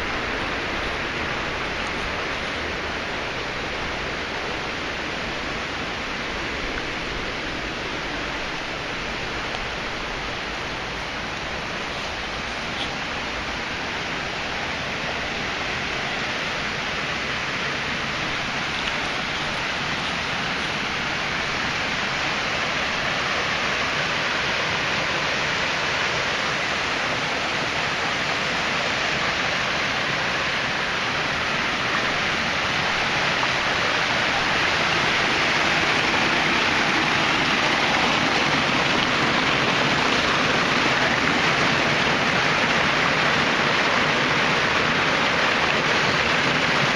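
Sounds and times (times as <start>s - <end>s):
small waterfall pouring: 0.0s - 46.9s.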